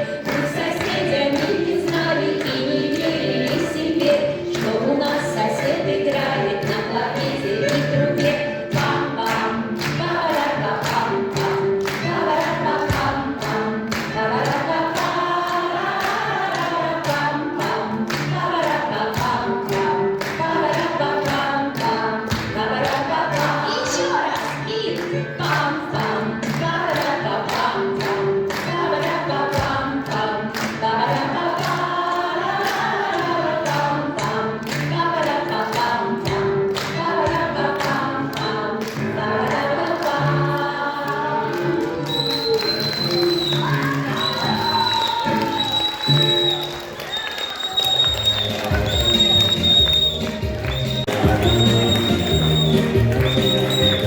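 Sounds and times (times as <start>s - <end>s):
choir singing: 0.0s - 44.8s.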